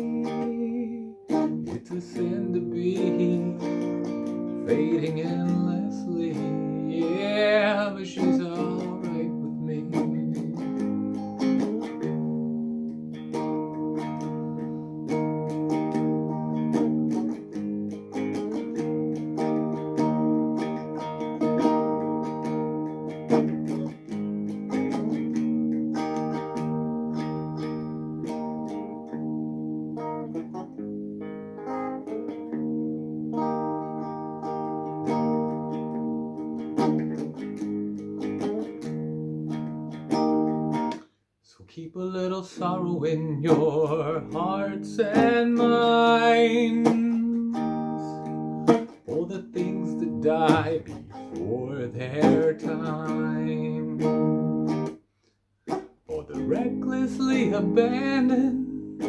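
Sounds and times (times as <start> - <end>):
clean electric guitar chords: 0.0 - 41.0, 42.6 - 55.0, 56.1 - 59.0.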